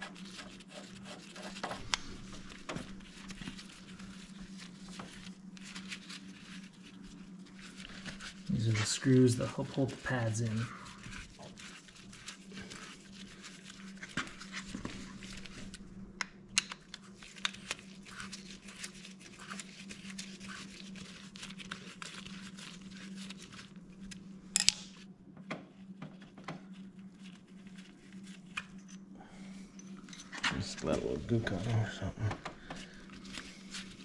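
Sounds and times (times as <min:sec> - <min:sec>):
rustle of gloves: 0:00.0 - 0:16.1, 0:16.7 - 0:25.0, 0:25.8 - 0:32.0, 0:32.7 - 0:34.0
steady low hum: 0:00.0 - 0:34.0.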